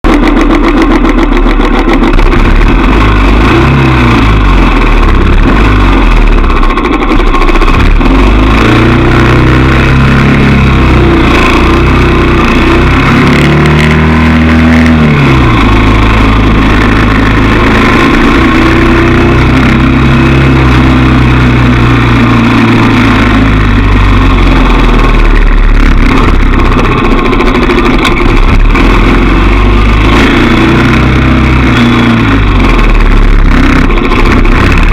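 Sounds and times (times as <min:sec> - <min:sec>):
constant rushing noise: 0:00.0 - 0:34.9
motorbike engine revving: 0:00.0 - 0:34.9.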